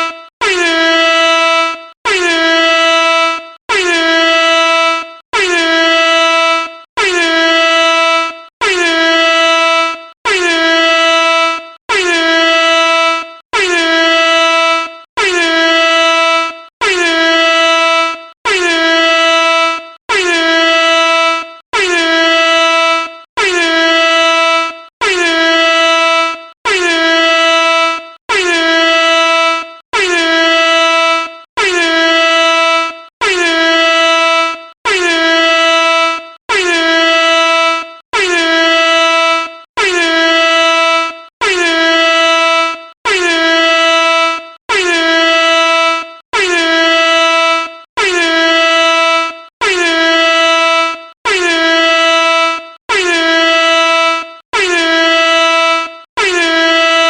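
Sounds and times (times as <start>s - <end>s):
air horn blasts: 0.0s - 57.0s.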